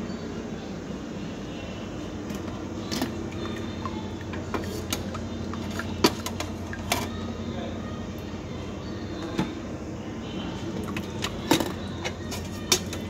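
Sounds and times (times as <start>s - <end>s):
dining room hum: 0.0s - 13.0s.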